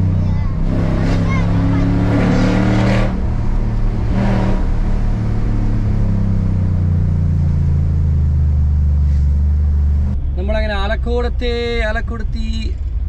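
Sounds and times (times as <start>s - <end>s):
pickup truck engine drone: 0.0s - 13.0s.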